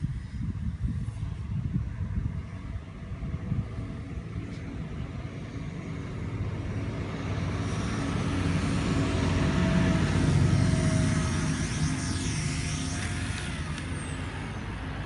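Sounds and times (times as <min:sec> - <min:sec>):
rc helicopter motor whine: 0:00.0 - 0:15.0
wind buffeting microphone: 0:00.0 - 0:15.0.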